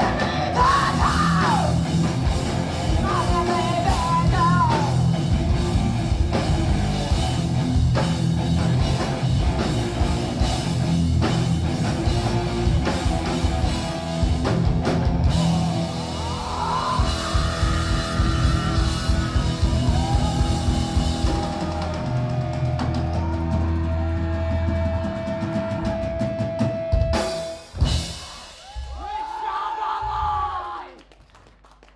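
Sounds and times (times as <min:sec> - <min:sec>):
metal band playing: 0:00.0 - 0:28.8.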